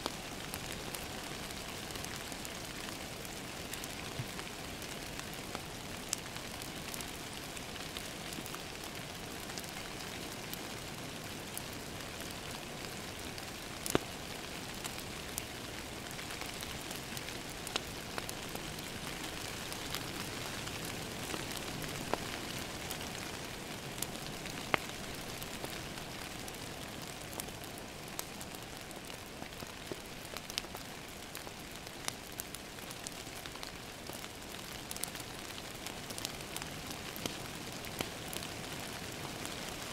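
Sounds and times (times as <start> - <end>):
rain pattering on a window: 0.0 - 39.9
wood fire crackling and popping: 0.0 - 39.9.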